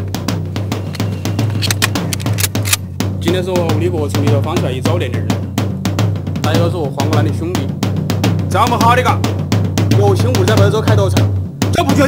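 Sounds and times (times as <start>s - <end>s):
fast driving drum beat: 0.0s - 12.0s.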